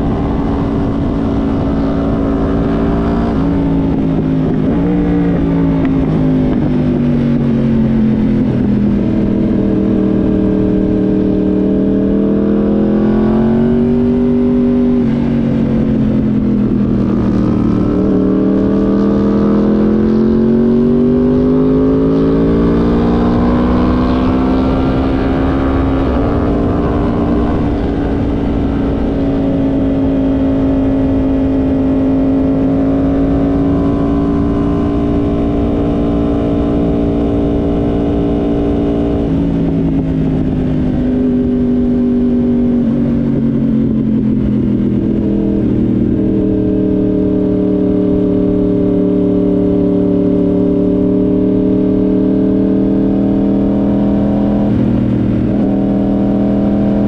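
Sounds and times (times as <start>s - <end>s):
motorcycle engine running hard: 0.0s - 57.0s
wind rush: 0.0s - 57.0s.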